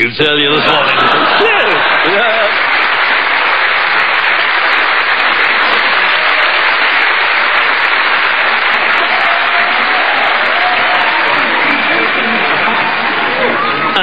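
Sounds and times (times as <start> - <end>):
audience applauding: 0.5 - 14.0.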